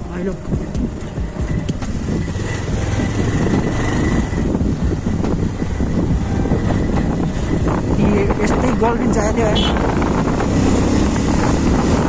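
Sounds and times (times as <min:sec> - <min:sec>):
motorbike engine drone: 0:00.0 - 0:12.0
road surface rattle and rumble: 0:00.0 - 0:12.0
wind buffeting microphone: 0:00.1 - 0:12.0.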